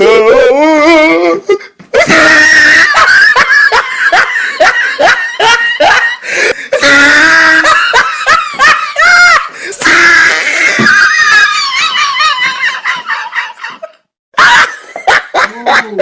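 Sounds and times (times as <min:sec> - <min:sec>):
person laughing shrilly: 0:01.0 - 0:16.0.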